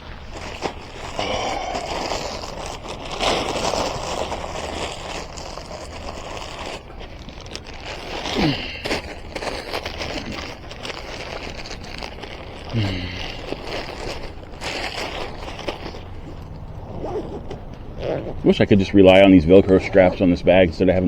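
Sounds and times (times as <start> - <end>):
bag rustling and scraping: 0.0 - 21.0.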